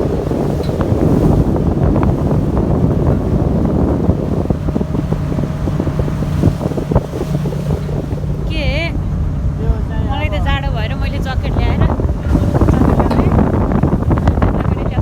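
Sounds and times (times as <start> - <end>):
ship engine rumble: 0.0 - 15.0
wind buffeting microphone: 0.0 - 15.0.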